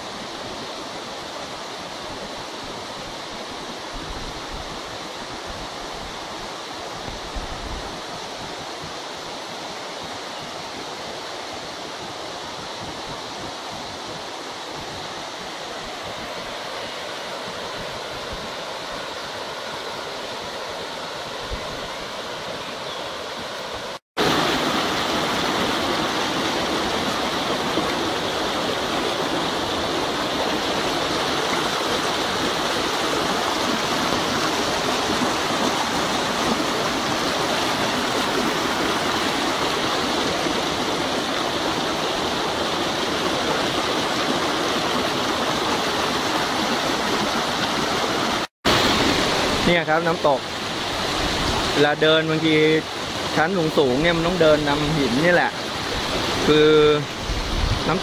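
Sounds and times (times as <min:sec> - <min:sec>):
mountain stream rushing over boulders: 0:00.0 - 0:58.0.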